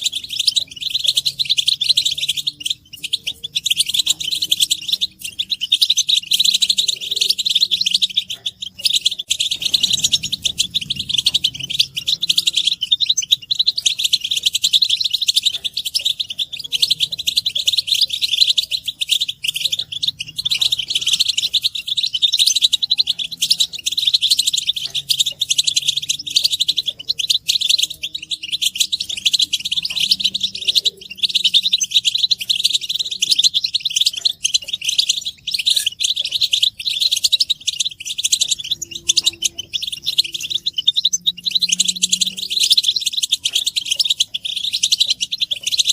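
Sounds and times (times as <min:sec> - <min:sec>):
goldfinches twittering: 0:00.0 - 0:45.9.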